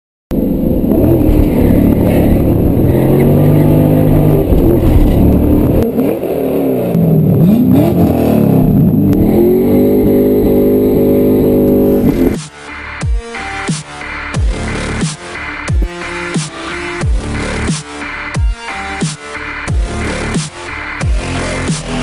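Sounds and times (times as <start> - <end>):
car engine revving: 0.3 - 22.0.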